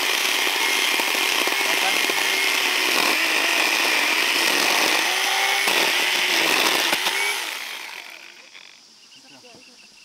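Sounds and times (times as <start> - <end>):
chainsaw cutting wood: 0.0 - 8.8.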